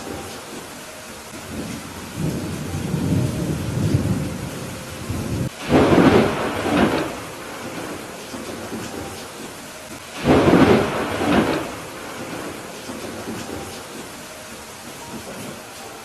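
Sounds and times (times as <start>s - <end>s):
thunder rumbling: 0.0s - 15.8s
steady rain: 0.0s - 16.0s.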